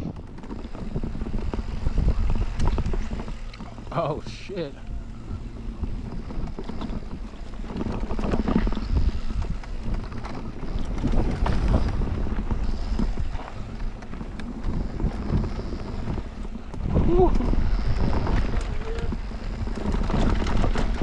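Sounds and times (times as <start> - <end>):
bike rattling clicks and knocks: 0.0 - 21.0
bike tyre noise: 0.0 - 21.0
wind buffeting microphone: 0.0 - 21.0.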